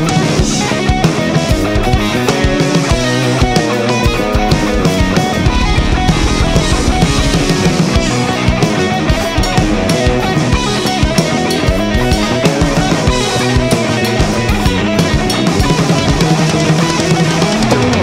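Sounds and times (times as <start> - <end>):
electric guitar: 0.0 - 18.0.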